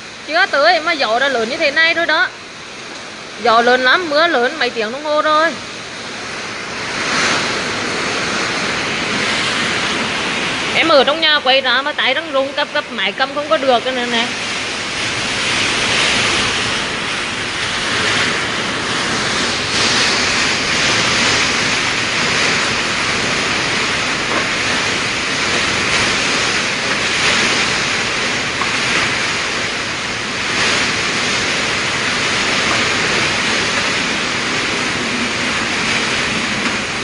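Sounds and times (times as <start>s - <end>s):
heavy rain: 0.0s - 37.0s
strong wind gusting: 0.0s - 37.0s.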